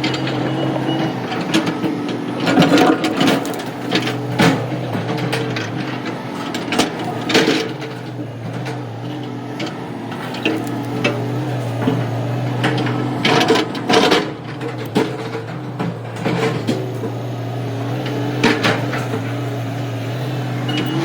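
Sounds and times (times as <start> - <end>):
knocks and clanks: 0.0 - 19.6
engine running steadily: 0.0 - 21.0.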